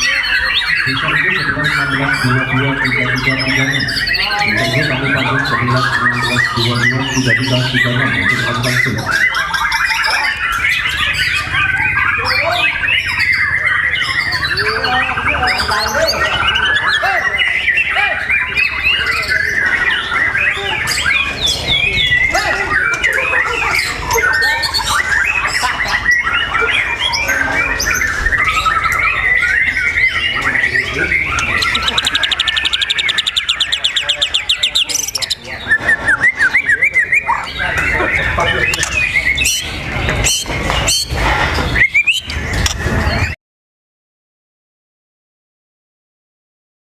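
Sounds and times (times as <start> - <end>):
fast even bird trill: 0.0 - 43.4
songbird singing: 0.0 - 43.4.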